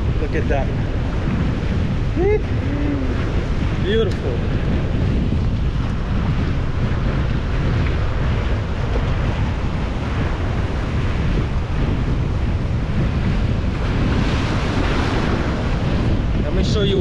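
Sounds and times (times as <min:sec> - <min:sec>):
surf washing: 0:00.0 - 0:17.0
wind buffeting microphone: 0:00.0 - 0:17.0.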